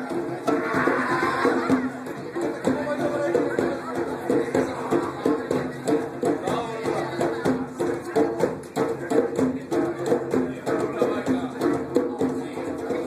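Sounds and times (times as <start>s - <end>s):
percussion ensemble drumming: 0.0s - 13.0s.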